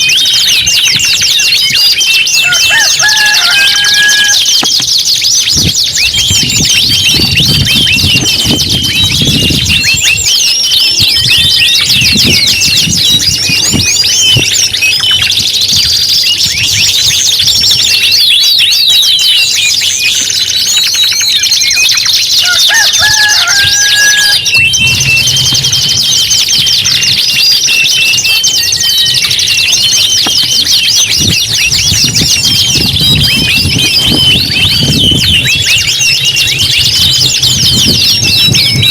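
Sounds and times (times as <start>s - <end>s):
canaries singing trills: 0.0s - 38.9s.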